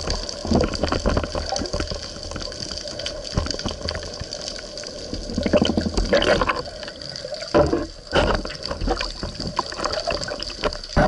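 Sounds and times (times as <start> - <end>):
water sloshing and gurgling: 0.0 - 11.0
water splashes: 0.0 - 11.0.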